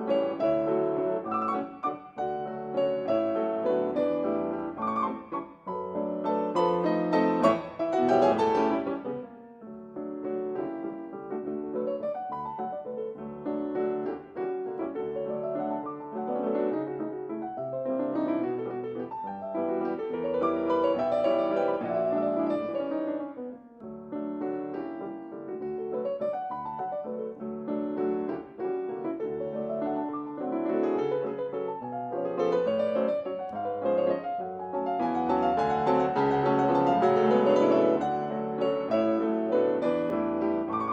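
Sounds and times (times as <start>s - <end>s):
solo piano music: 0.0s - 40.9s.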